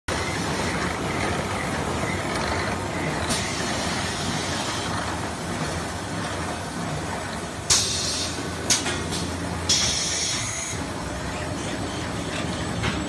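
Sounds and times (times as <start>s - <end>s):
machine conveyors and motors running: 0.1s - 13.0s.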